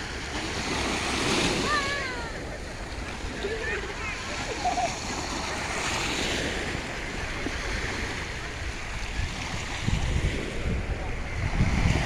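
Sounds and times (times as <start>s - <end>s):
sea waves washing ashore: 0.0s - 12.0s.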